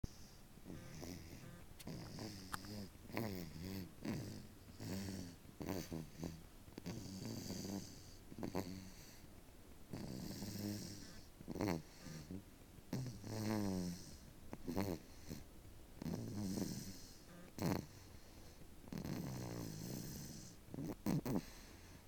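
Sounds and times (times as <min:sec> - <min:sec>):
baby snoring: 0:00.1 - 0:09.2, 0:09.9 - 0:22.0.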